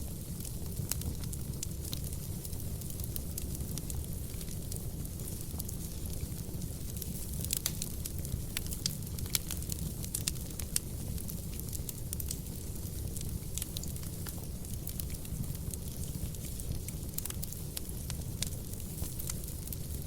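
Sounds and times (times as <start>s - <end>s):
fire rumbling: 0.0s - 20.0s
logs crackling and popping: 0.1s - 20.0s.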